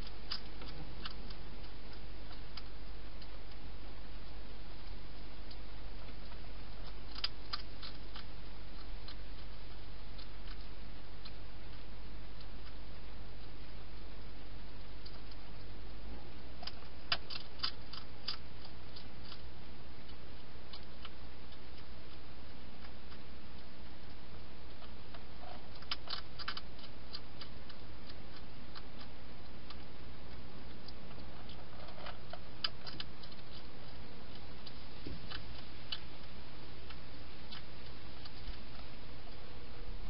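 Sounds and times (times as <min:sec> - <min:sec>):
hedgehog chewing and crunching: 0:00.0 - 0:40.0
low hum: 0:00.0 - 0:40.0
steady hiss: 0:00.0 - 0:40.0.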